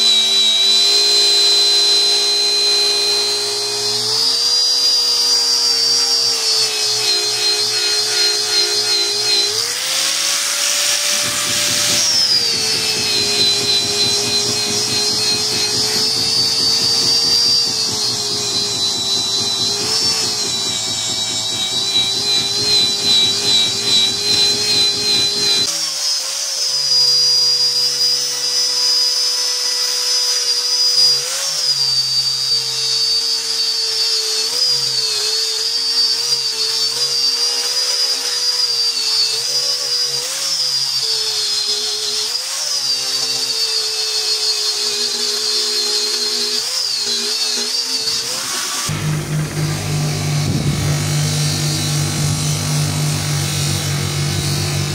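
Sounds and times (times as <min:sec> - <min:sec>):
power tool grinding steel blade: 0:00.0 - 0:54.9.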